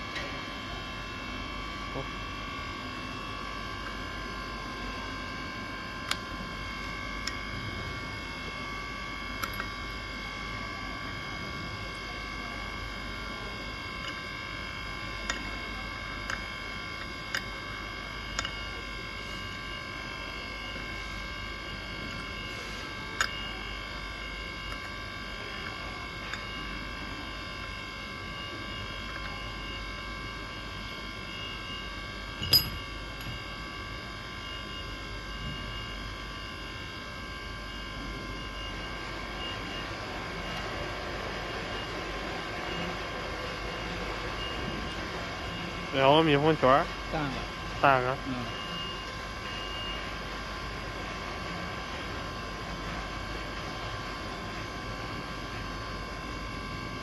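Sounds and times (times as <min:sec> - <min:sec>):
electrical whine: 0:00.0 - 0:57.0
steady hum: 0:00.0 - 0:57.0.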